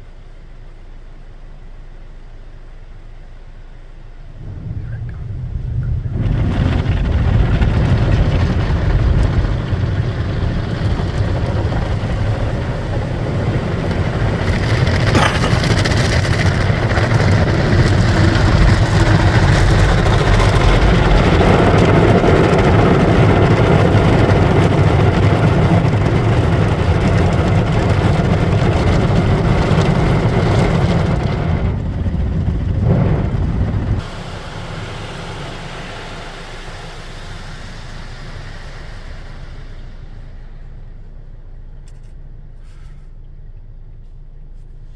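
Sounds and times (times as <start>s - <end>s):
car wash rumble and hiss: 0.0s - 44.9s.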